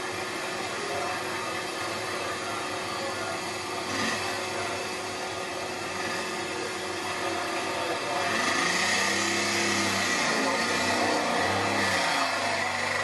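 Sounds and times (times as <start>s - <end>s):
scooter engine idling and revving: 0.0s - 13.0s.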